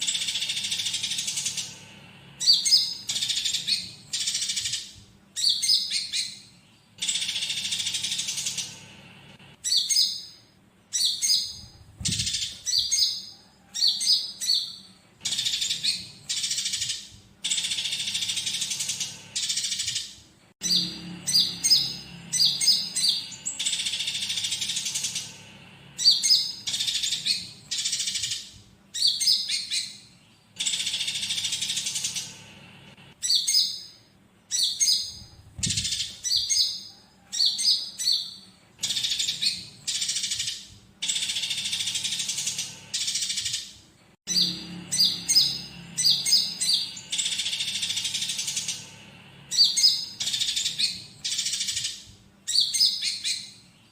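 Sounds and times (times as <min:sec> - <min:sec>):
songbird chirps and buzzy trills: 0:00.0 - 0:53.9.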